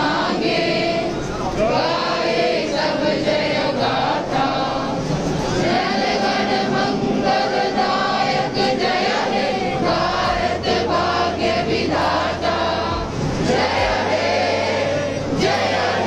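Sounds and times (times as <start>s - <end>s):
group singing in unison: 0.0s - 16.0s.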